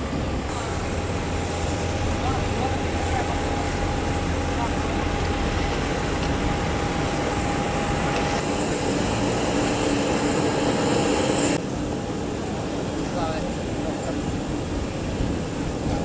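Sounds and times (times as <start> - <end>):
engine noise with whining tone: 0.0 - 16.0.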